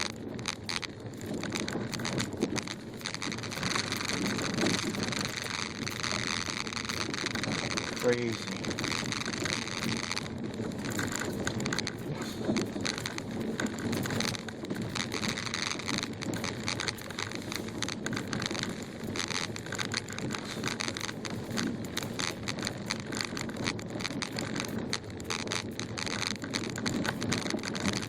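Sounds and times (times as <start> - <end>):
car rumble: 0.0 - 28.0
small crackling knocks: 0.0 - 28.0
tyres crunching over snow: 0.0 - 28.0.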